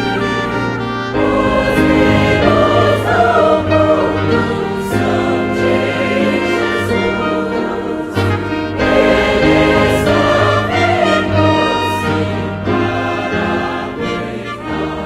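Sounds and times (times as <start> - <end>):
brass ensemble: 0.0 - 15.0
choir singing a hymn: 0.0 - 15.0.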